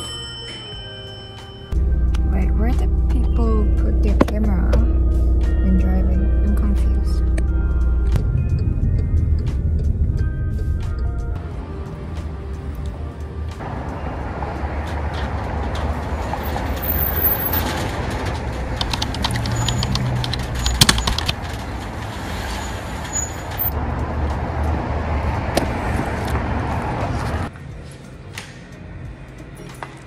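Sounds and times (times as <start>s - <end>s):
road traffic: 1.7s - 30.0s.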